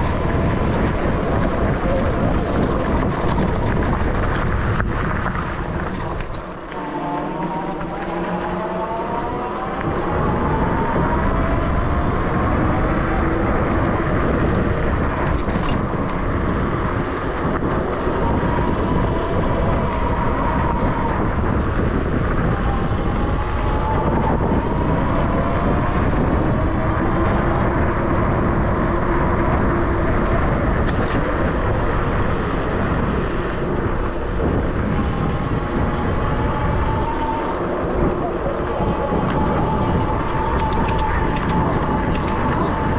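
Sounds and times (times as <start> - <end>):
tyre rumble over trail: 0.0 - 42.9
wind buffeting microphone: 0.0 - 42.9.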